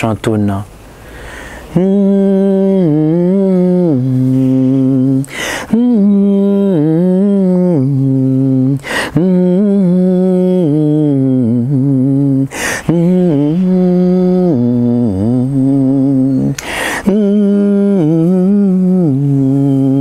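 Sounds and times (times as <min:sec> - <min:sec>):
man humming a slow tune: 0:01.6 - 0:20.0.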